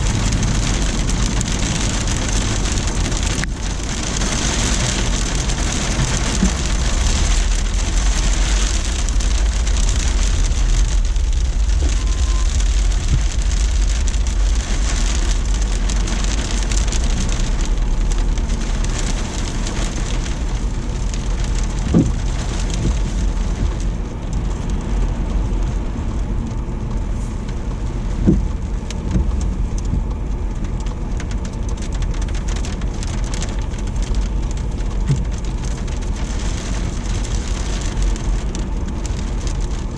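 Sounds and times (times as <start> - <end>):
deep constant rumble: 0.0 - 39.9
heavy rain and sleet hiss: 0.0 - 39.9.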